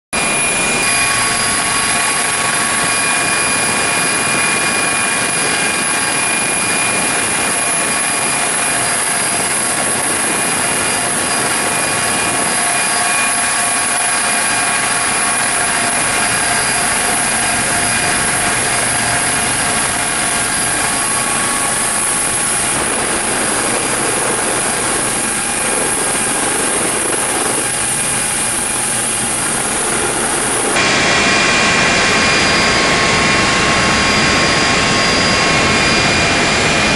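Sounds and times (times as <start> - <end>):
helicopter turbines and rotors: 0.2 - 36.9.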